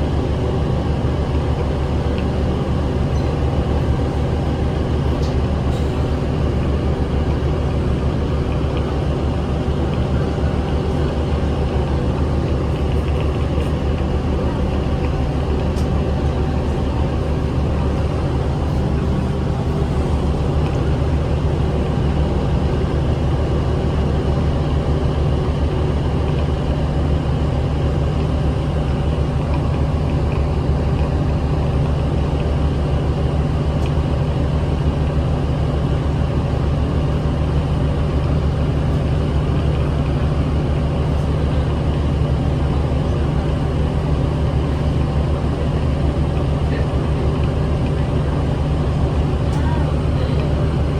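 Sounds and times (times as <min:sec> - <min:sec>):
bus diesel engine droning: 0:00.0 - 0:50.9.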